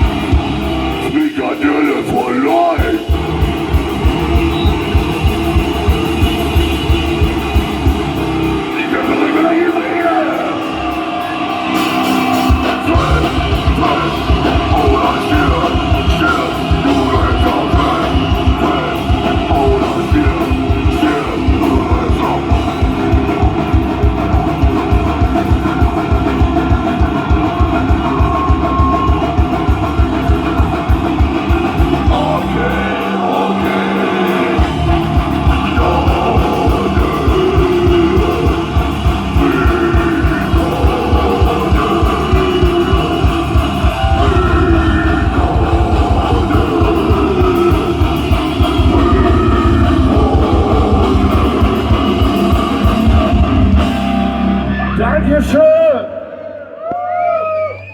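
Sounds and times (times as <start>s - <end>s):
fast dense drumming: 0.0s - 54.7s
distorted guitars: 0.0s - 57.9s
vocals: 0.0s - 57.9s.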